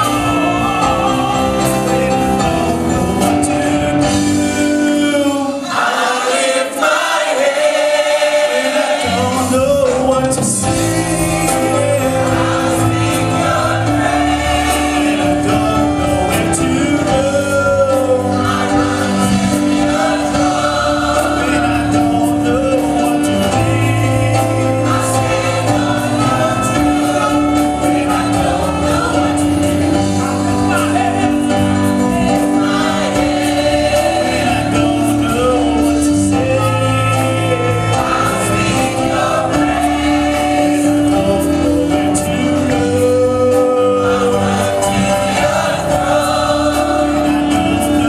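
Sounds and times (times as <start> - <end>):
gospel choir singing: 0.0 - 48.0
live band playing: 0.0 - 48.0.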